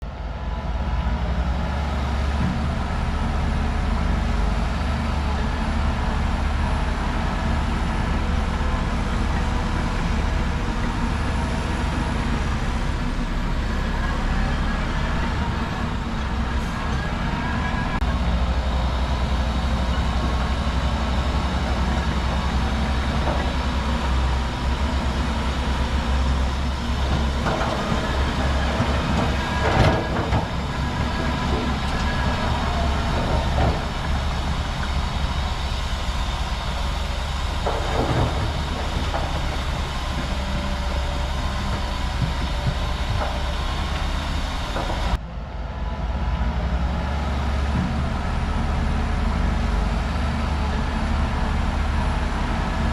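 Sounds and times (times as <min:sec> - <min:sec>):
bulldozer diesel engine: 0:00.0 - 0:52.9
steel tracks clattering: 0:01.1 - 0:45.2.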